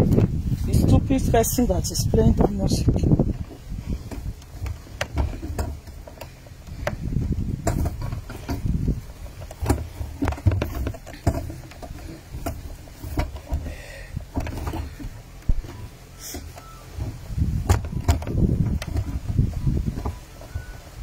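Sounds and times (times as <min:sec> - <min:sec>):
handling knocks and clicks: 0:02.3 - 0:21.0.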